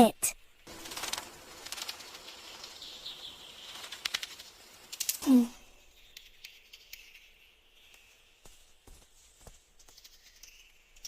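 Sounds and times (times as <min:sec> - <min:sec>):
faint chirping ambience: 0:00.0 - 0:11.0.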